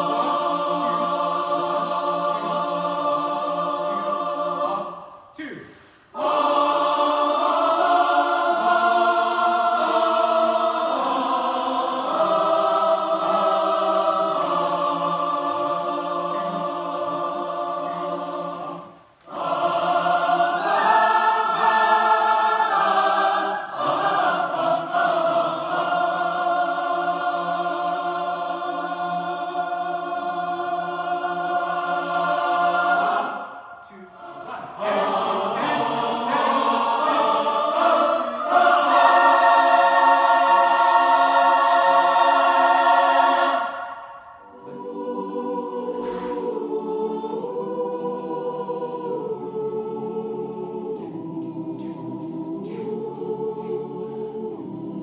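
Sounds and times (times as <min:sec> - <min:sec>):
mixed choir singing: 0:00.0 - 0:05.4, 0:06.0 - 0:55.0.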